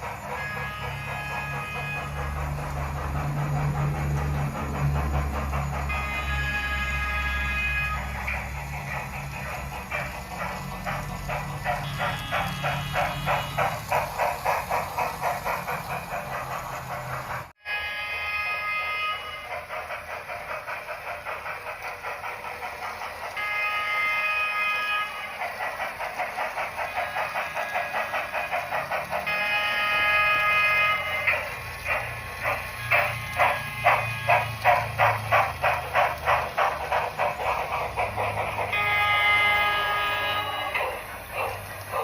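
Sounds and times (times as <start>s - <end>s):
multi-tone train whistle: 0.0s - 42.0s
steam locomotive chuffing: 0.0s - 42.0s.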